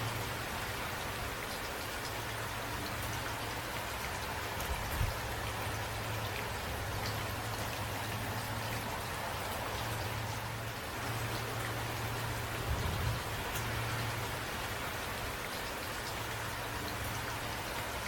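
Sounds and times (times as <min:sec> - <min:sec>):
raindrops ticking on a surface: 0:00.0 - 0:18.0
steady rain falling: 0:00.0 - 0:18.0.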